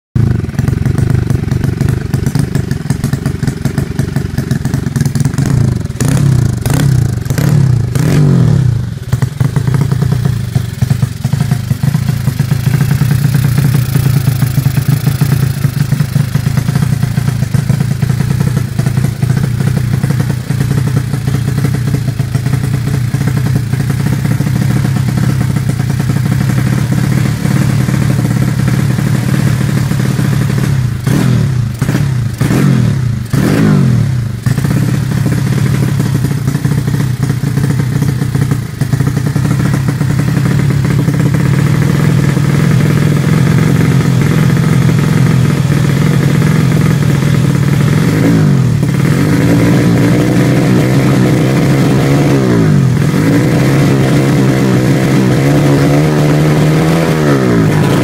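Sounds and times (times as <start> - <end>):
motorcycle engine idling and revving: 0.1 - 58.0.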